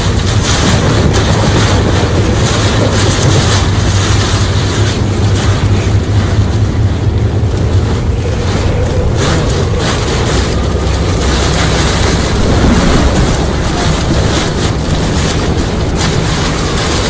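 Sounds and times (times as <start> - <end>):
rain splashes on windscreen: 0.0 - 17.0
wind and driving rain: 0.0 - 17.0.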